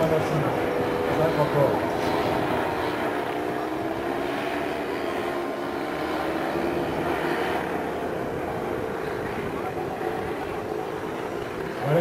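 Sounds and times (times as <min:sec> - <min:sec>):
model airplane engines droning: 0:00.0 - 0:12.0.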